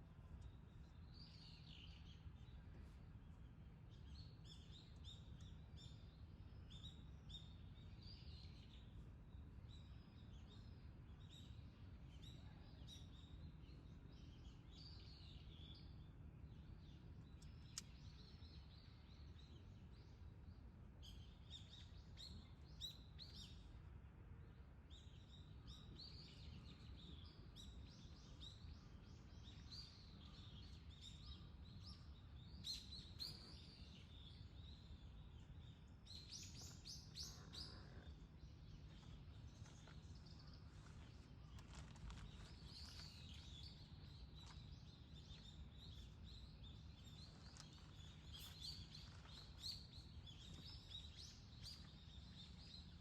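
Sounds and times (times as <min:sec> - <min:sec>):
small birds chirping: 0:00.0 - 0:23.9, 0:24.5 - 0:53.0
low background rumble: 0:00.0 - 0:53.0.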